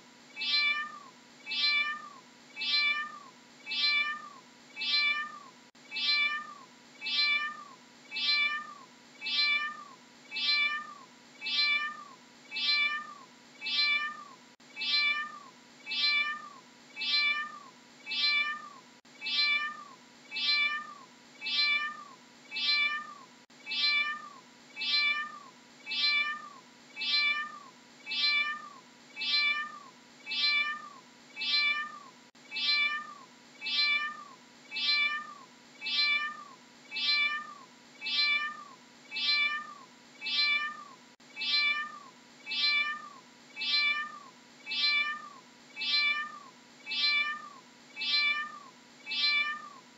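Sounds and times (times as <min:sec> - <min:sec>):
cat meowing: 0:00.4 - 0:49.8.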